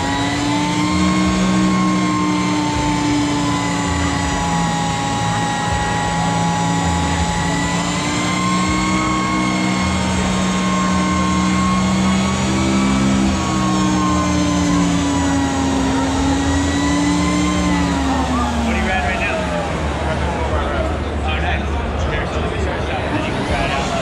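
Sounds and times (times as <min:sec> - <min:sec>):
electric motorcycle motor whining: 0:00.0 - 0:21.2.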